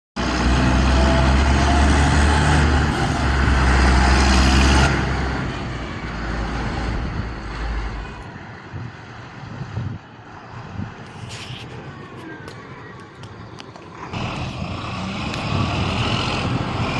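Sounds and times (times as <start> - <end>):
tractor engine humming: 0.2 - 16.9.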